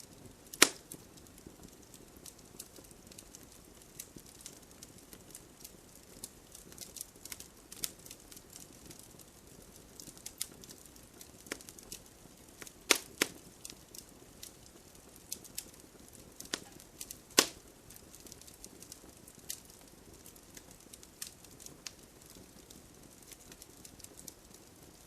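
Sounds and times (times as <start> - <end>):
campfire crackling and popping: 0.0 - 25.0
hiss of burning wood: 0.0 - 25.0.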